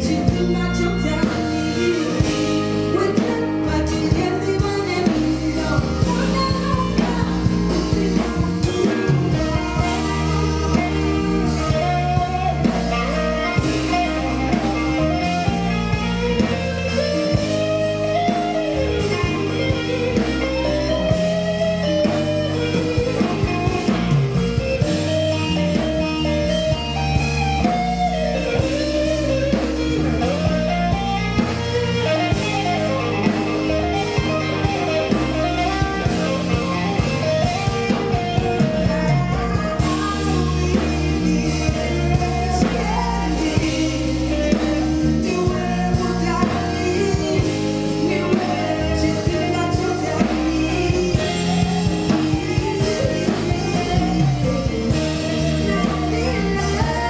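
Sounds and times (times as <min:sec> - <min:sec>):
bass: 0:00.0 - 0:57.0
drums: 0:00.0 - 0:57.0
guitar: 0:00.0 - 0:57.0
woman singing: 0:00.0 - 0:57.0.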